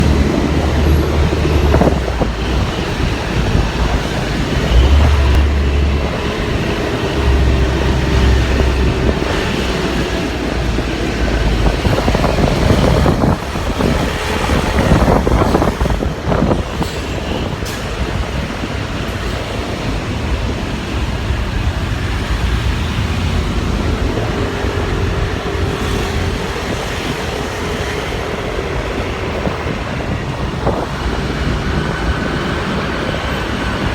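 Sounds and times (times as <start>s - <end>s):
road noise: 0.0s - 33.9s
traffic: 0.0s - 33.9s
wind buffeting microphone: 0.0s - 33.9s.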